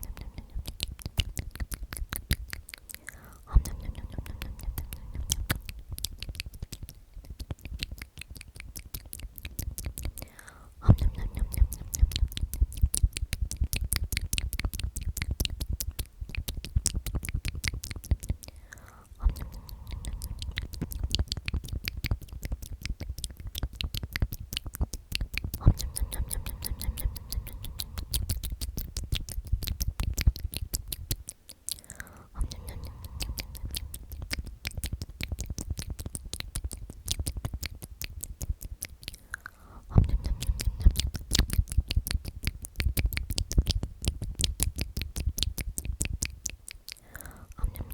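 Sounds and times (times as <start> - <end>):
wet lip and mouth clicks: 0.0 - 47.9
whispered omnomnom: 0.0 - 47.9.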